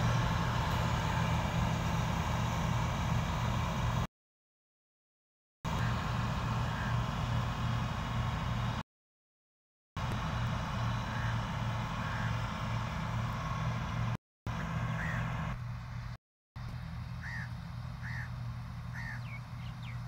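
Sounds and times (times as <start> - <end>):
combine harvester engine drone: 0.0 - 4.1, 5.7 - 8.8, 10.0 - 20.0.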